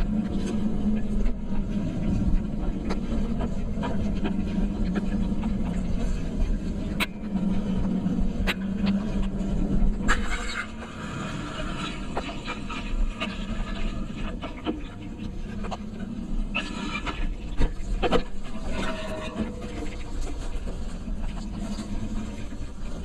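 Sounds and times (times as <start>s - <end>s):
rumble of travel over wet ground: 0.0s - 18.6s.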